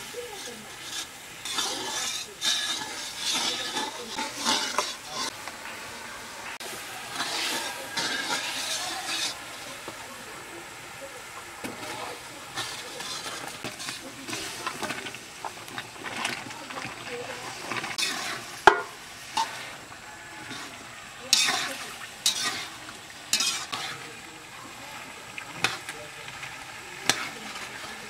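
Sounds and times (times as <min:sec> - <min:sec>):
metal spatula scraping pan: 0:00.0 - 0:05.4, 0:06.6 - 0:10.0, 0:11.6 - 0:24.3, 0:25.6 - 0:28.0
food sizzling: 0:00.0 - 0:28.0.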